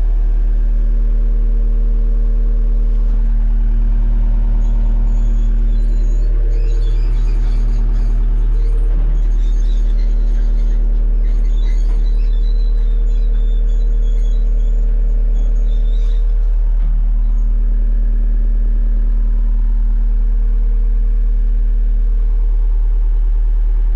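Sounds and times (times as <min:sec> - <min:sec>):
diesel engine running steadily: 0:00.0 - 0:23.9.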